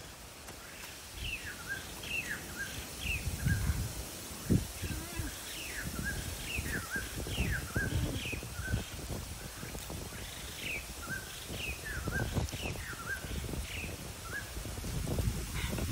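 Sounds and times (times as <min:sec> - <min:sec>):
low wind rumble: 0:00.0 - 0:15.9.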